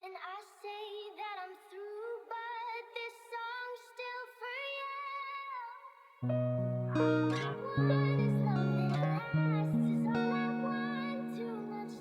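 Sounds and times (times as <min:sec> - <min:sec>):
high-pitched filtered singing voice: 0:01.9 - 0:12.0.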